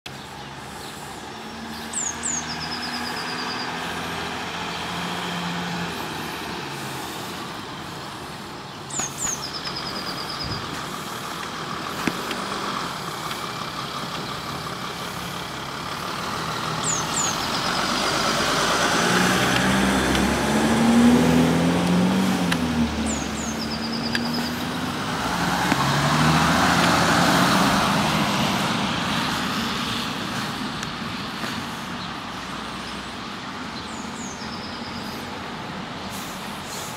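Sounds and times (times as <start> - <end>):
traffic and engine noise: 0.0 - 36.9.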